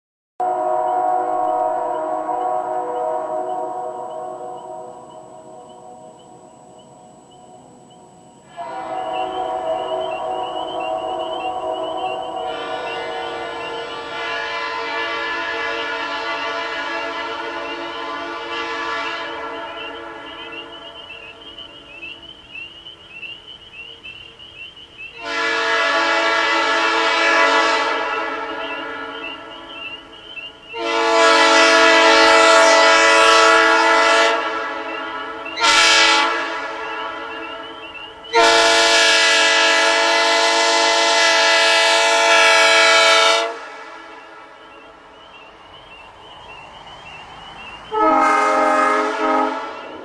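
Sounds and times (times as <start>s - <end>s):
locomotive air horn blasts: 0.4s - 6.2s, 8.4s - 22.3s, 25.2s - 44.6s, 47.9s - 50.0s
night insects chirping: 0.4s - 50.0s.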